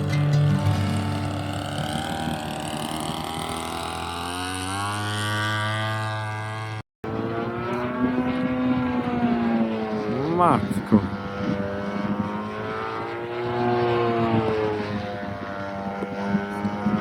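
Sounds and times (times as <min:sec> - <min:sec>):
model airplane engine running: 0:00.0 - 0:17.0.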